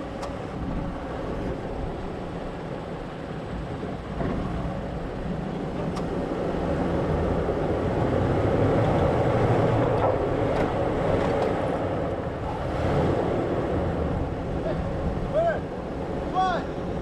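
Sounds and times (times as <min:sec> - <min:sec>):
truck engine low rumble: 0:00.0 - 0:17.0.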